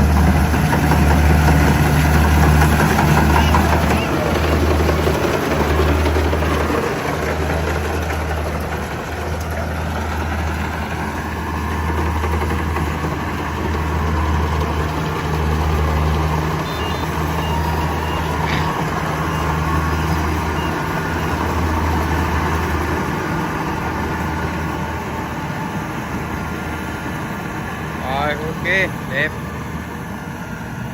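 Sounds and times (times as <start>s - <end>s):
diesel engine droning: 0.0s - 30.9s
faint machinery whine: 0.0s - 30.9s.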